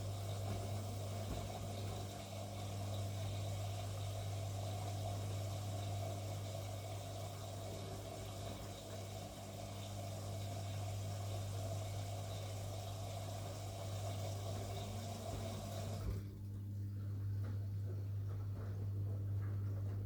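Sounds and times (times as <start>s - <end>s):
water rushing through washing machine: 0.0s - 17.5s
washing machine low hum: 0.0s - 20.0s.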